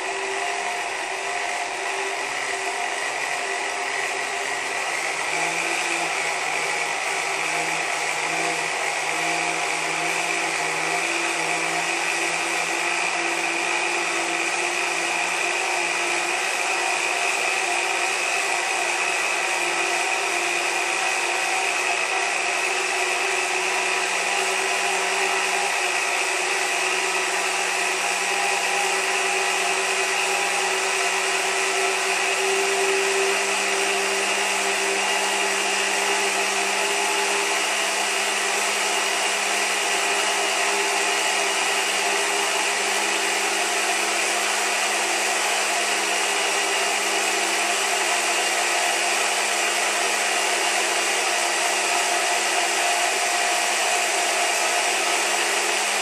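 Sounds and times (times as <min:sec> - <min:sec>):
small electric motor whirring: 0:00.0 - 0:56.0.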